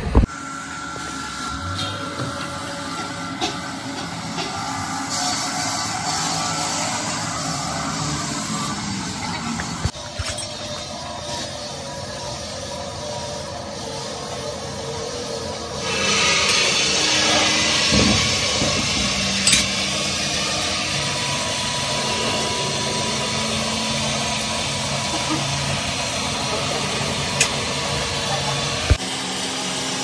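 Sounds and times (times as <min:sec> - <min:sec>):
engine running with hiss: 0:00.0 - 0:30.0.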